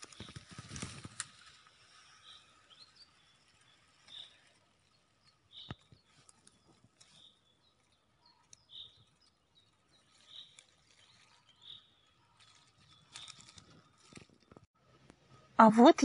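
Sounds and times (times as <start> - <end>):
bird calling faintly: 0.0 - 14.7.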